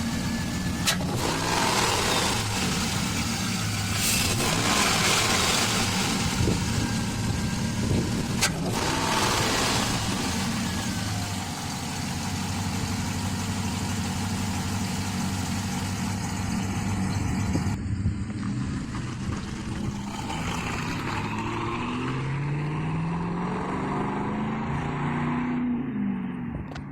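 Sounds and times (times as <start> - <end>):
deep engine exhaust note: 0.0 - 26.7.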